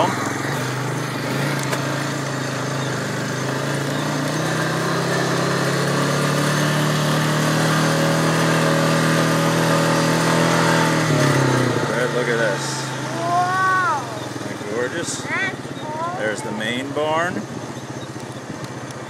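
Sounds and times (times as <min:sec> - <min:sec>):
quad engine running: 0:00.0 - 0:19.0.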